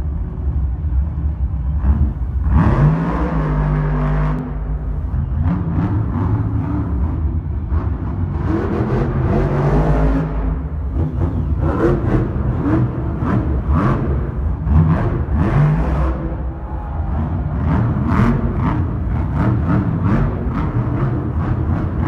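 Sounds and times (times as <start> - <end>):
truck engines revving hard: 0.0 - 22.0.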